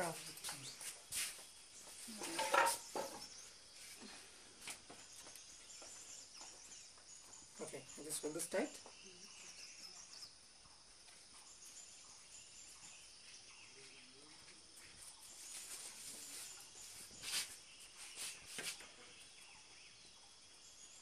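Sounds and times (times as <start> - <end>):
birds chirping: 0.0 - 21.0
insects chirping: 0.0 - 21.0.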